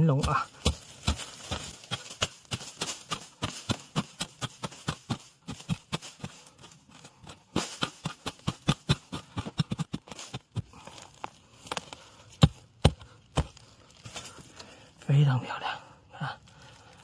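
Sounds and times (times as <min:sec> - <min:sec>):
hoe striking soil and roots: 0:00.0 - 0:14.8.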